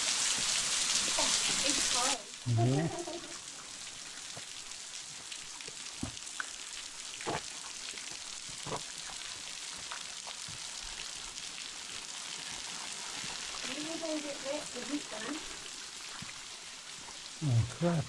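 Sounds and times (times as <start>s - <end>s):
waterfall splashing: 0.0s - 9.9s, 10.8s - 16.4s.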